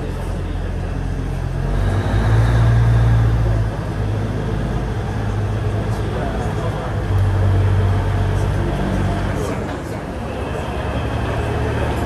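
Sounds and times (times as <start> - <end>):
train diesel engine rumbling: 0.0 - 12.0.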